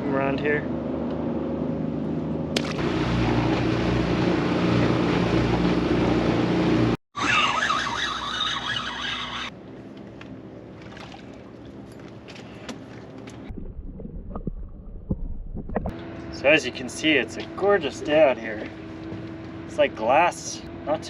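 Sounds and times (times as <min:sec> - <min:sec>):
outboard motor running: 0:00.1 - 0:13.8, 0:15.6 - 0:21.0.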